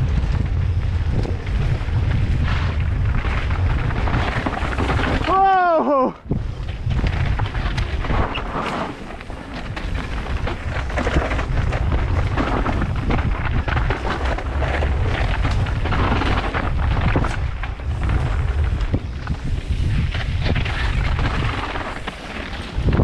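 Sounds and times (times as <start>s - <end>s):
bike rattling and clicking: 0.0s - 23.0s
bike tyres rumbling on dirt: 0.0s - 23.0s
wind buffeting microphone: 0.0s - 23.0s.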